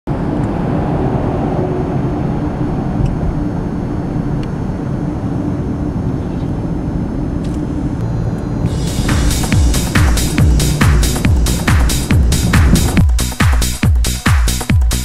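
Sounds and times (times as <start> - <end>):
car road and engine noise: 0.1 - 15.0.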